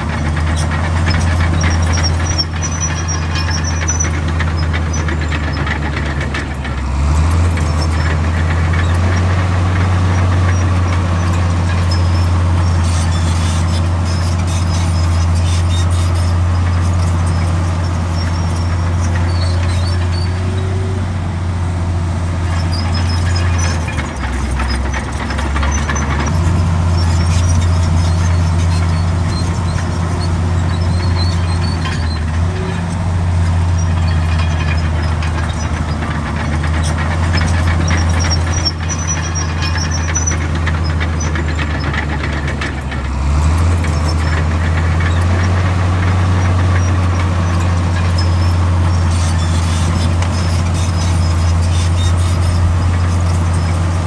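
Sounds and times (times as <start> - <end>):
heavy diesel engine under load: 0.0 - 54.0
faint high squeaks: 7.2 - 21.0, 22.5 - 42.5, 43.3 - 54.0.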